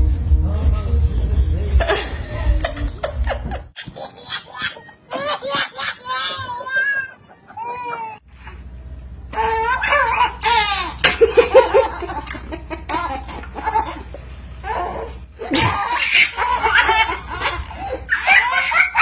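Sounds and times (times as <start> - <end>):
child laughing: 2.0 - 8.2, 9.4 - 19.0.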